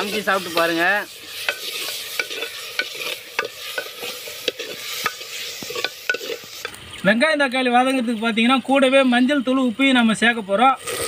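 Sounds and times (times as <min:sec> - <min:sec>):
food sizzling in oil: 0:00.0 - 0:09.8, 0:10.7 - 0:11.0.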